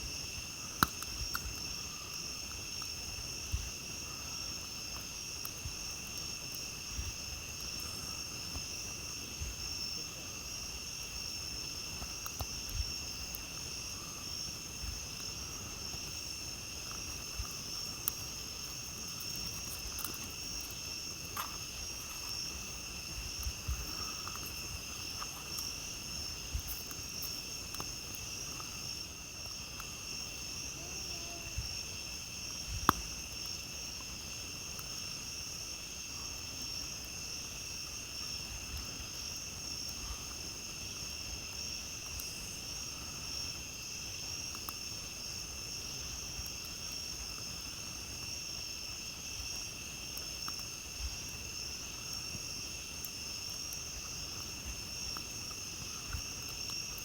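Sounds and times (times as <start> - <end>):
night insects chorus: 0.0 - 57.0
campfire crackling and popping: 0.1 - 57.0.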